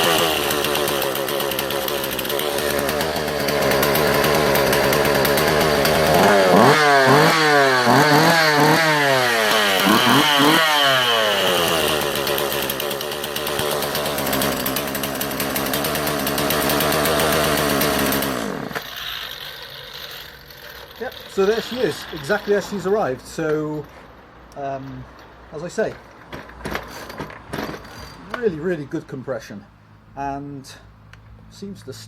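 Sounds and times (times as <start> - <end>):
chainsaw idling and revving: 0.0 - 23.9, 26.4 - 28.9.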